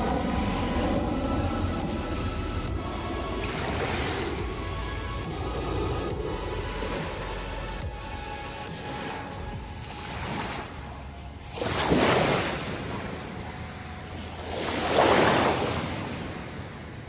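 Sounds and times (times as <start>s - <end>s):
small waves washing ashore: 0.0s - 17.0s.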